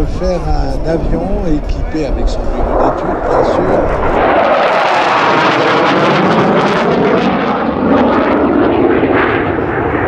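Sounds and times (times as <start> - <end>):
jet flying overhead: 0.0 - 10.0.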